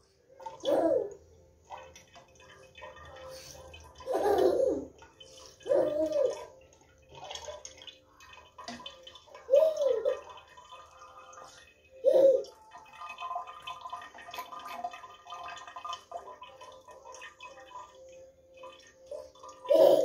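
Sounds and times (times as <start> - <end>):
water trickling from tap: 0.0 - 20.0.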